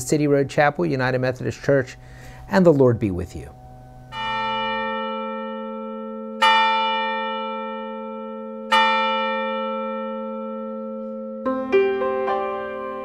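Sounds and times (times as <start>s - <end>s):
church bell tolling: 0.3s - 13.0s.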